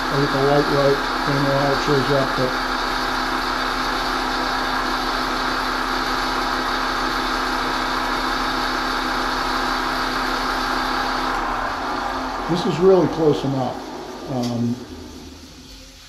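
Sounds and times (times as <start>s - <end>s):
bench grinder motor humming: 0.0s - 15.0s.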